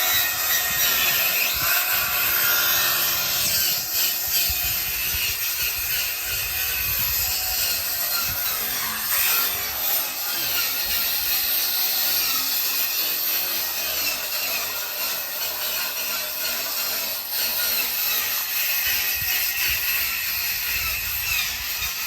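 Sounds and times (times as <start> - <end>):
hand saw cutting wood: 0.0 - 22.0.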